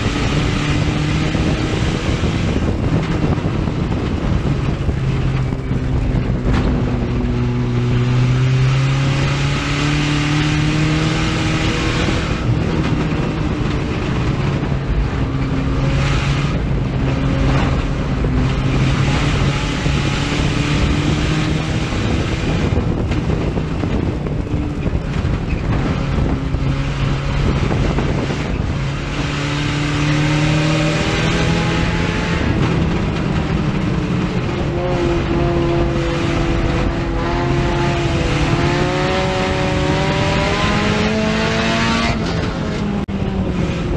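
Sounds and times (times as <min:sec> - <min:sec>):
race car engine revving: 0:00.0 - 0:43.9
wind noise: 0:00.0 - 0:43.9.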